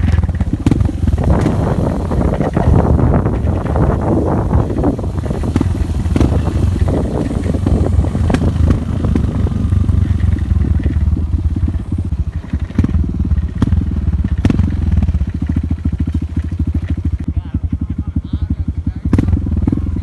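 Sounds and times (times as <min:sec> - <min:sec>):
knocks and rattles: 0:00.0 - 0:19.8
motorcycle engine running: 0:00.0 - 0:20.0.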